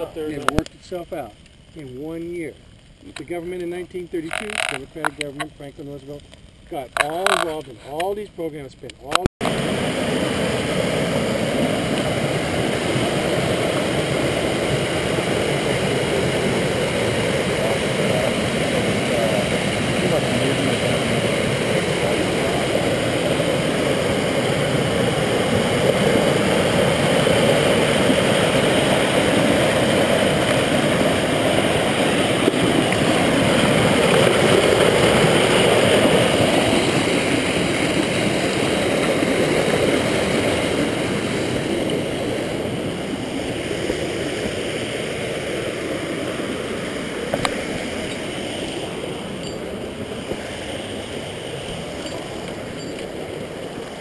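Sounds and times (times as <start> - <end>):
rushing river water: 9.4 - 54.0.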